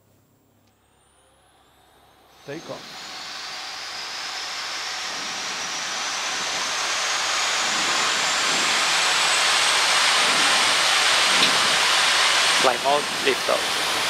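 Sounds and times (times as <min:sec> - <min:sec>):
electric fans rushing hiss: 0:00.0 - 0:14.0
rising high whine: 0:00.2 - 0:14.0.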